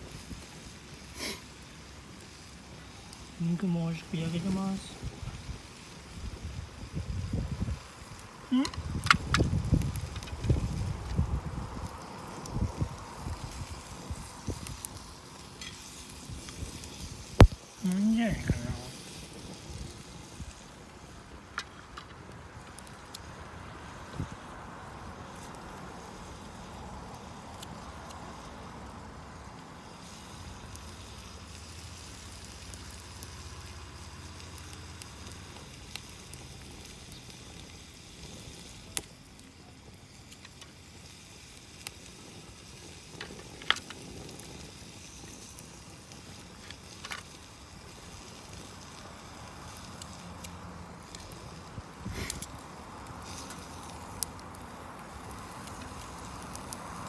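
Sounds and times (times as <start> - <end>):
meat sizzling: 0.0 - 21.6, 22.3 - 57.0
campfire crackling: 0.0 - 57.0.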